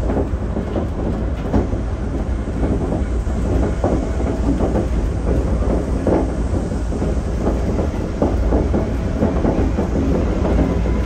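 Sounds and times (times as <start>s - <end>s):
monorail train rumbling: 0.0s - 11.0s.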